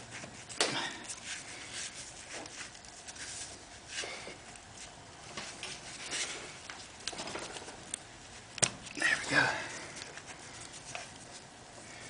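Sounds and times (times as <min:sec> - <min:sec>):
gloved hands rubbing and scuffing: 0:00.0 - 0:12.0.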